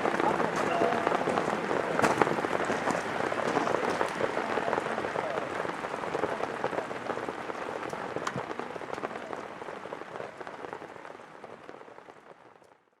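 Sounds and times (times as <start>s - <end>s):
rain patter: 0.0s - 13.0s.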